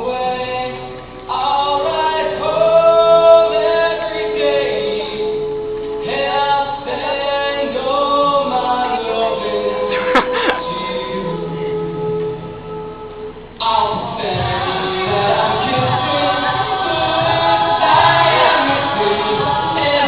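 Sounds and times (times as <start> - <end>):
group singing in harmony: 0.0 - 5.4, 6.0 - 12.8, 13.6 - 20.0.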